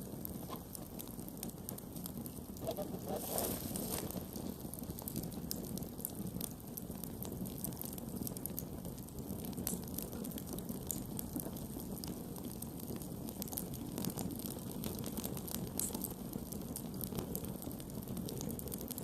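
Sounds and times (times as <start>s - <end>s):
rush of flames: 0.0s - 19.0s
wood crackling and popping: 0.0s - 19.0s.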